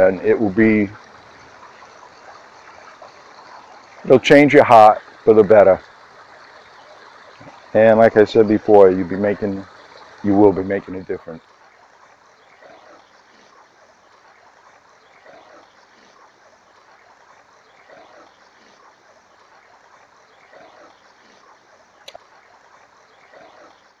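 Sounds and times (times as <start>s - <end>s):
stream trickling: 0.0s - 24.0s.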